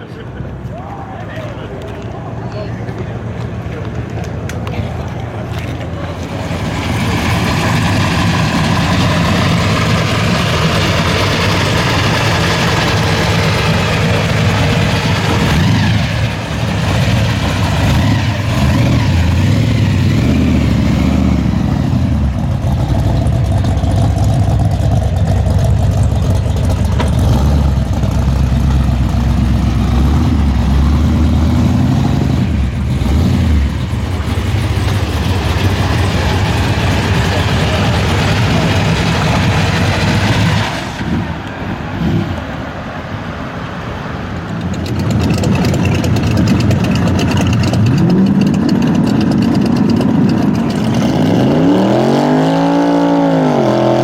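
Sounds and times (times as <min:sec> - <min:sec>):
car engine with deep exhaust rumble: 0:00.0 - 0:54.0.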